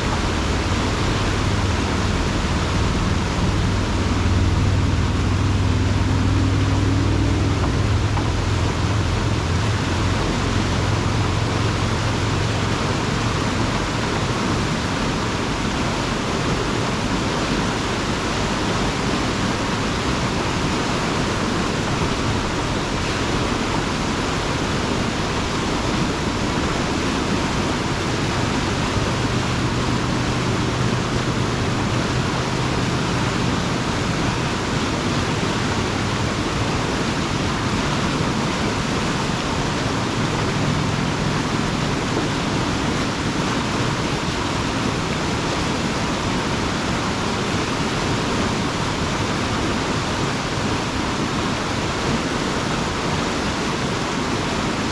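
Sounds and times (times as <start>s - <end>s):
excavator engine hum: 0.0s - 44.1s
water rushing through culvert: 0.0s - 54.9s.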